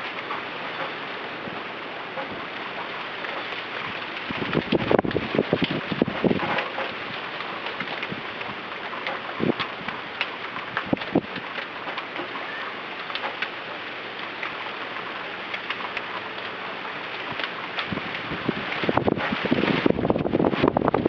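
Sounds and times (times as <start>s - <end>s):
wind and rain rushing hiss: 0.0s - 21.0s.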